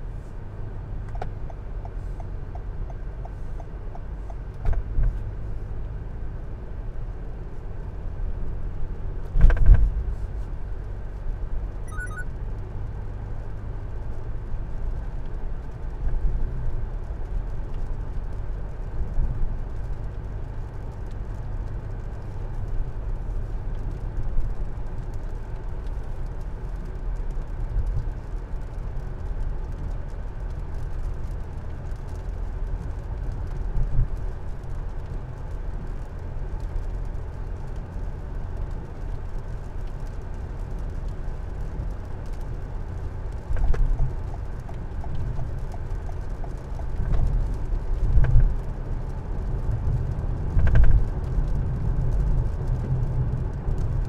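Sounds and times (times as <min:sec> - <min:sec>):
car driving on wet road: 0:00.0 - 0:54.0.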